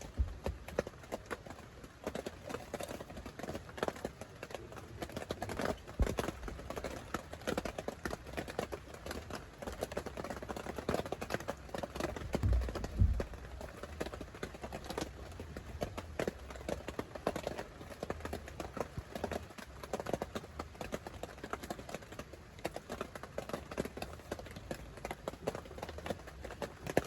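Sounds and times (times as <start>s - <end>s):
irregular knocks and taps: 0.0s - 27.0s.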